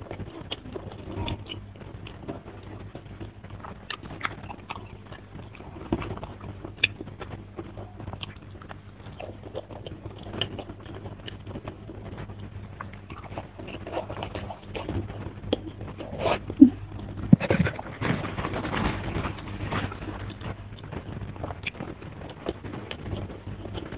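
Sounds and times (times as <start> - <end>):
wet chewing with mouth clicks: 0.1 - 23.9.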